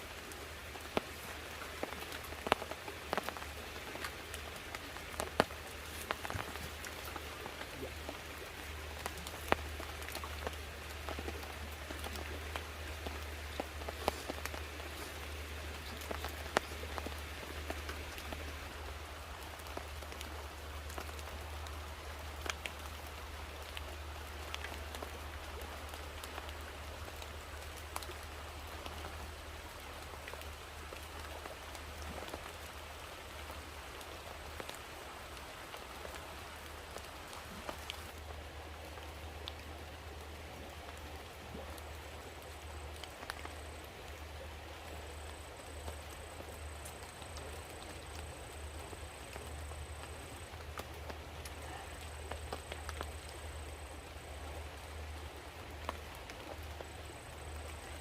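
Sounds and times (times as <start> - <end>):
rain drops ticking: 0.0 - 58.0.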